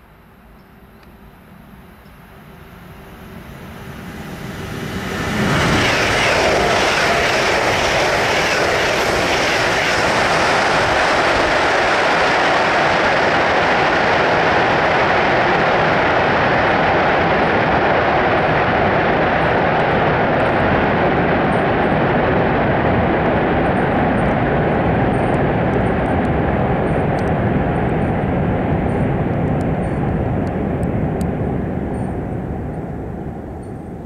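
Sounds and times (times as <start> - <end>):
train rushing through tunnel: 2.1 - 34.0.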